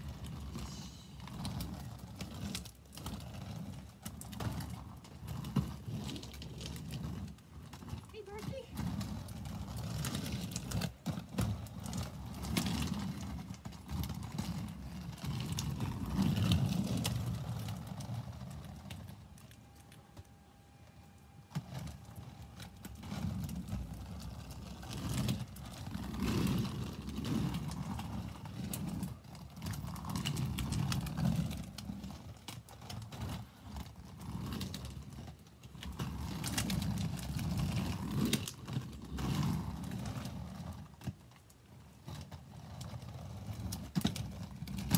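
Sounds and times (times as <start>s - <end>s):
skate wheels rolling on pavement: 0.0s - 44.9s.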